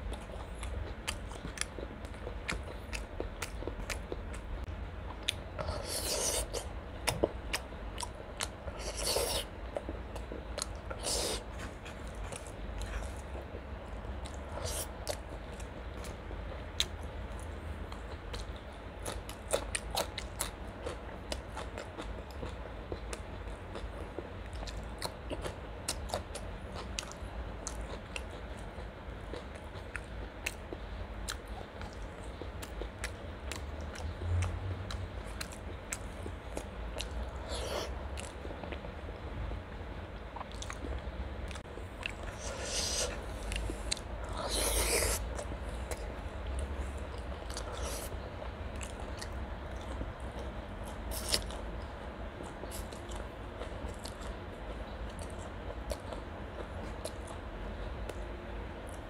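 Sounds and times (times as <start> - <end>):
person chewing food: 0.0 - 39.3, 40.1 - 59.0
low steady hum: 0.0 - 59.0.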